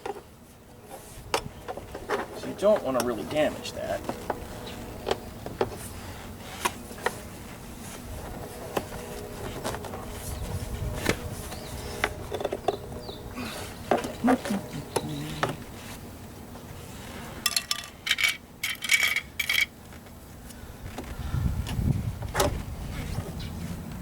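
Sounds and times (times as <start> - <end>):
steady buzzing hum: 0.0 - 23.0.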